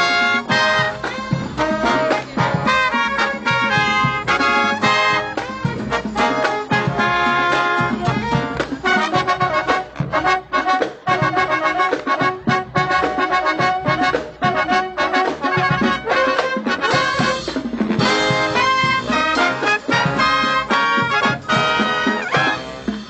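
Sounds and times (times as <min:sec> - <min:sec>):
big band playing swing: 0:00.0 - 0:23.0
drum kit beat: 0:00.0 - 0:23.0
trumpets and trombones: 0:00.0 - 0:23.0.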